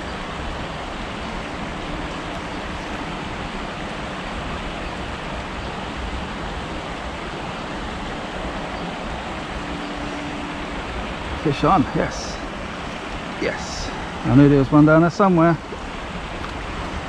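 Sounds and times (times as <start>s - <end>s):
shallow river water rushing: 0.0s - 17.0s.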